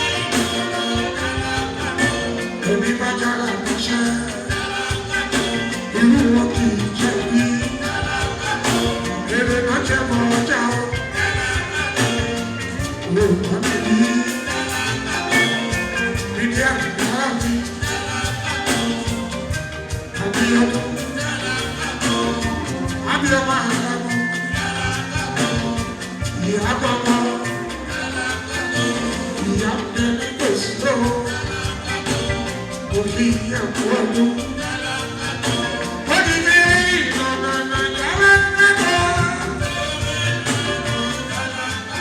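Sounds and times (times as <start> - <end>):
band playing: 0.0 - 42.0
person singing: 0.0 - 42.0.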